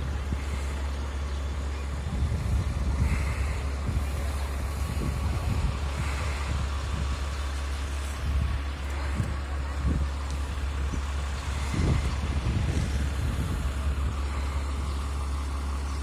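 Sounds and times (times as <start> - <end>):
wind on microphone: 0.0 - 15.2
diesel engine humming: 0.0 - 16.0.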